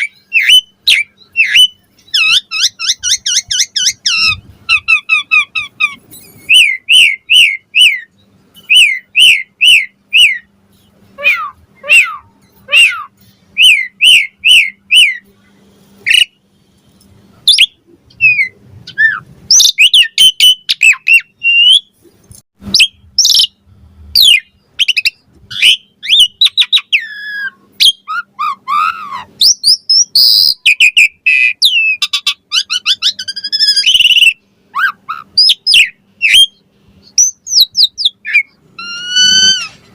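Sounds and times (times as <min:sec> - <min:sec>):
starling singing: 0:00.0 - 0:15.4, 0:16.0 - 0:16.5, 0:17.4 - 0:22.0, 0:24.2 - 0:39.8.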